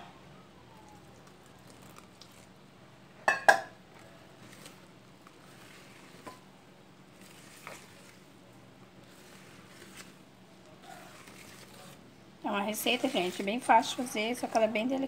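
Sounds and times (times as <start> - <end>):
whisk squishing batter: 0.8 - 2.6, 4.0 - 15.0.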